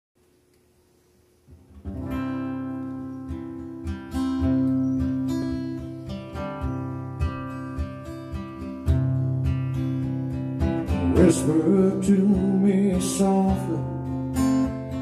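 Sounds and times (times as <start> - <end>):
acoustic guitar chords strummed: 1.5 - 15.0.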